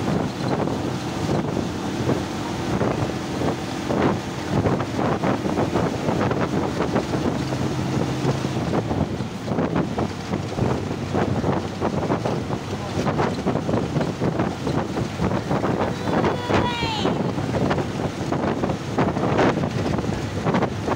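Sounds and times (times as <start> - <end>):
bus engine and tyres hum: 0.0 - 20.9
wind buffeting microphone: 0.0 - 20.9.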